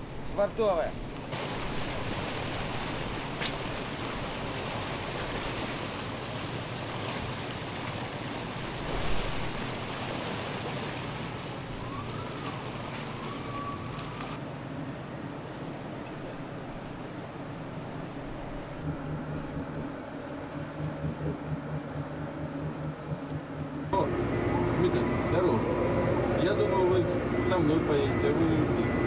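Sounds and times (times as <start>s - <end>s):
sea water churning and splashing: 0.0s - 29.0s
wind: 0.0s - 29.0s.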